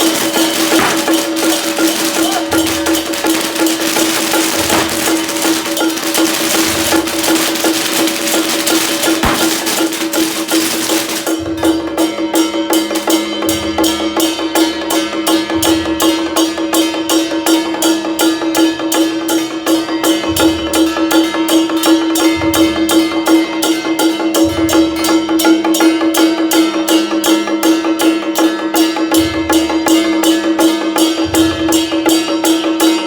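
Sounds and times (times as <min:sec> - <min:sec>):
fast percussion beat: 0:00.0 - 0:33.0.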